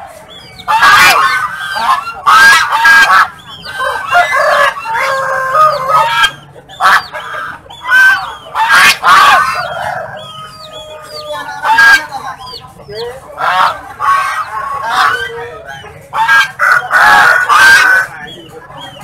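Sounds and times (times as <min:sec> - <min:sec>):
small birds chirping: 0:00.0 - 0:19.0
waterfowl honking: 0:00.3 - 0:19.0.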